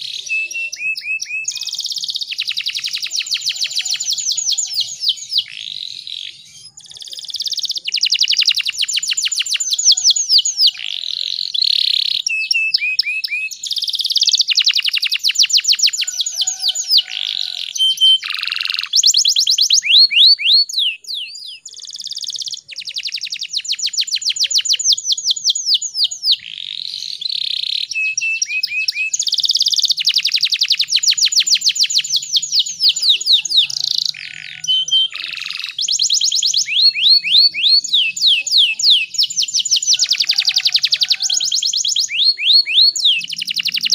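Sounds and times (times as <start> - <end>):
canary singing trills: 0.0 - 43.9.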